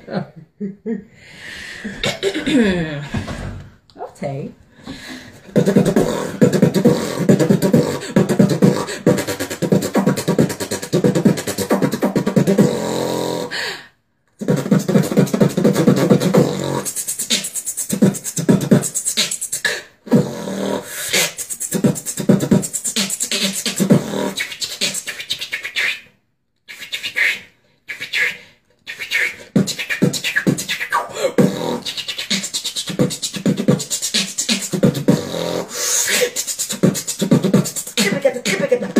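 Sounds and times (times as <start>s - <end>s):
person beatboxing: 2.0s - 3.0s, 5.4s - 13.6s, 14.4s - 26.1s, 26.7s - 38.9s.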